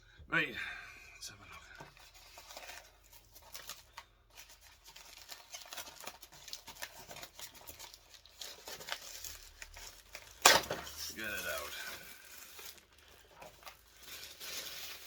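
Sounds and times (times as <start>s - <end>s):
packaging rustling and scraping: 1.8s - 15.0s.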